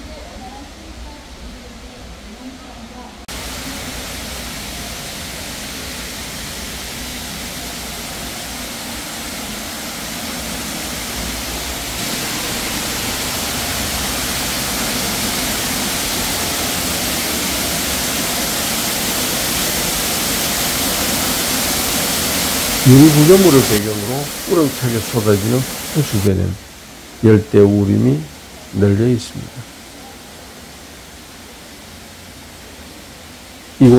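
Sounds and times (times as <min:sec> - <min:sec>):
waterfall rushing water: 0:03.2 - 0:33.9.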